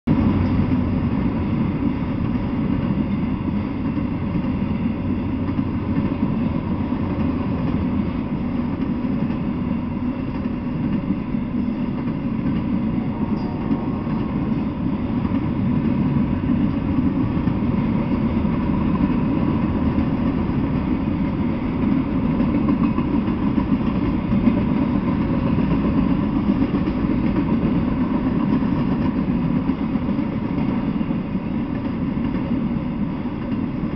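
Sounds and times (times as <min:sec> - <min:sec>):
freight train wheels rumbling: 0:00.0 - 0:33.9.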